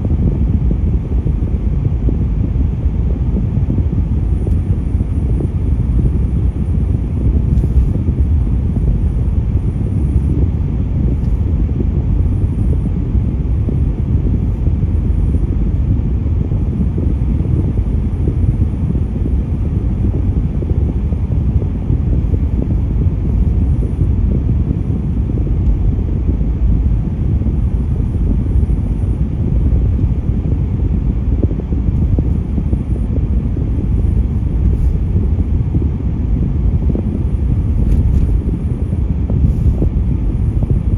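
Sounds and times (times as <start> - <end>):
traffic rumble: 0.0 - 40.9.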